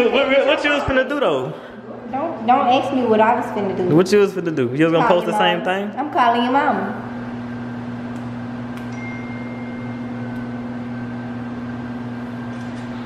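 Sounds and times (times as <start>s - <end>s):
kitchen appliance humming: 0.0s - 13.0s.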